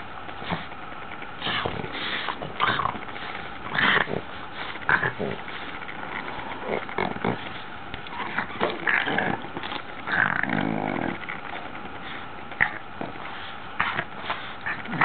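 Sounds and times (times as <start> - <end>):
puppy growling in play: 0.0 - 15.0.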